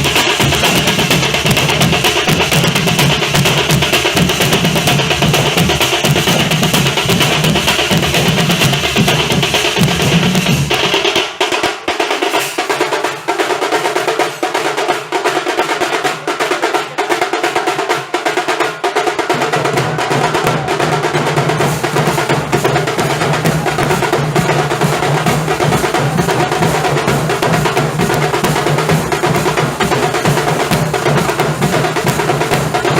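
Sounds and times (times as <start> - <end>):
deep drum beats: 0.0 - 14.2, 18.5 - 32.9
sharp high drum strokes: 0.0 - 32.9.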